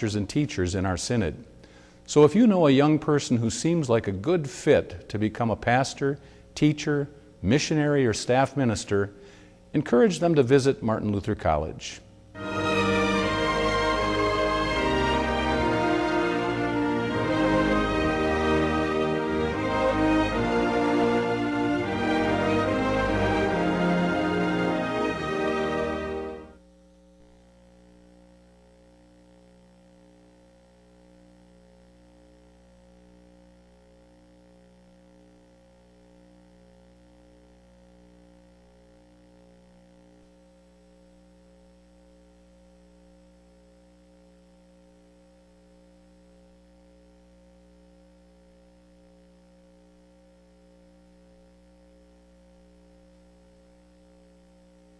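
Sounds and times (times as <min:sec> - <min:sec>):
faint electrical mains hum: 0:00.0 - 0:54.9.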